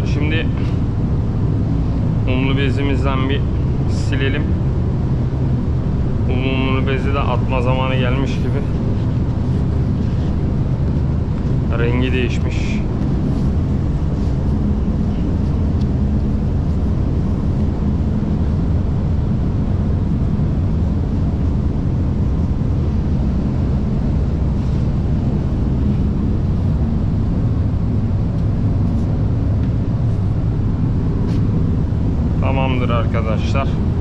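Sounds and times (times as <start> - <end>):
ventilation fans rumbling: 0.0 - 34.0.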